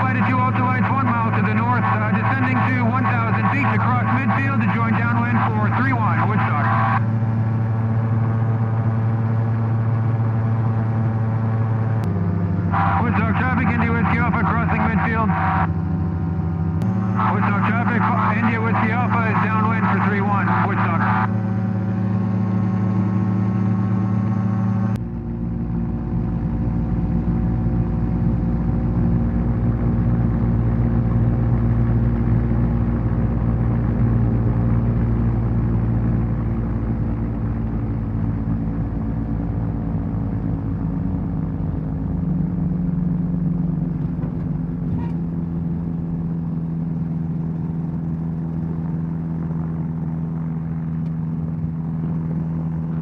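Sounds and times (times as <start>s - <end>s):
two-stroke aircraft engine: 0.0s - 53.0s.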